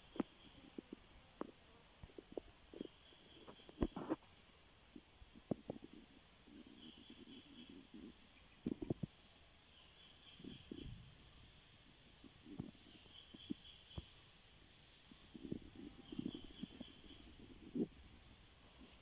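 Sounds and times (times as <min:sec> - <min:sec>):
insect chirping call: 0:00.0 - 0:19.0
insect hum: 0:00.0 - 0:19.0.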